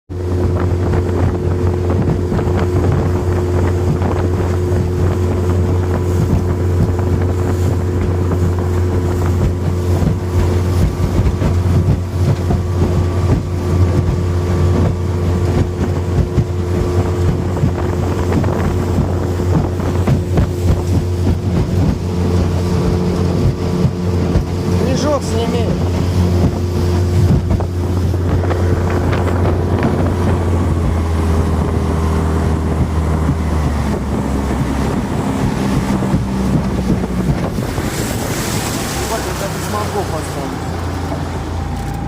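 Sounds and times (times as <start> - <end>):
engine running steadily: 0.1 - 42.0.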